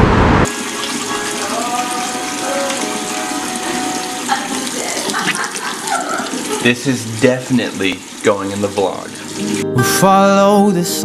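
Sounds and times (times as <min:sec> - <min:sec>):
tap running water: 0:00.5 - 0:09.7.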